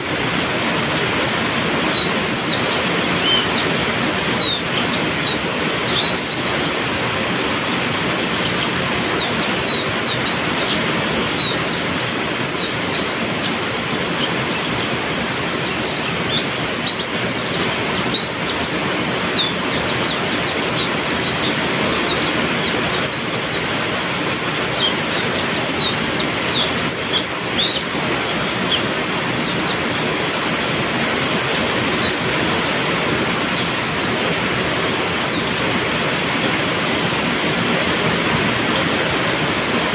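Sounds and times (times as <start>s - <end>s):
birds singing high quick notes: 0.0s - 36.6s
heavy rain: 0.0s - 39.9s.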